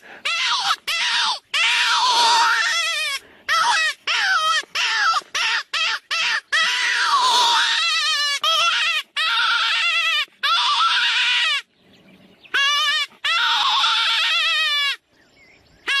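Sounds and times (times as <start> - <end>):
jackal howling and yipping: 0.0 - 11.7, 12.5 - 15.0.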